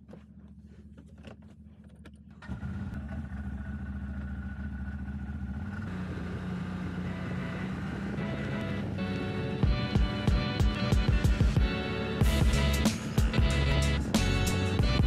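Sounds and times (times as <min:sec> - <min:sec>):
quad engine running: 0:00.0 - 0:15.0.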